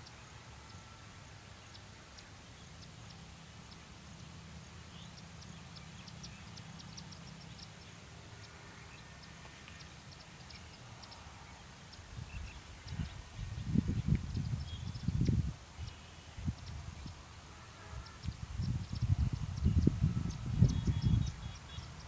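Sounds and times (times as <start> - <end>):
low steady rumble: 0.0 - 22.0
small birds chirping: 0.0 - 22.0.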